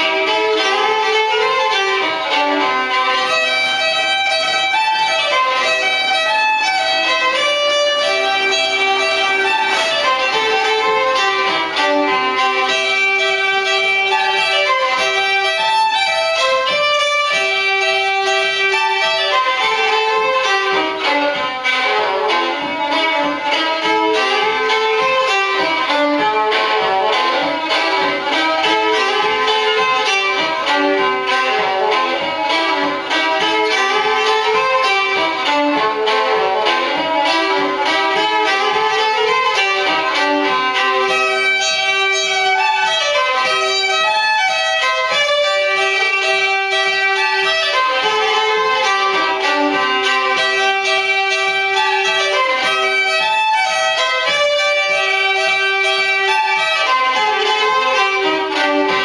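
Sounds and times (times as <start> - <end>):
solo fiddle melody: 0.0 - 59.0.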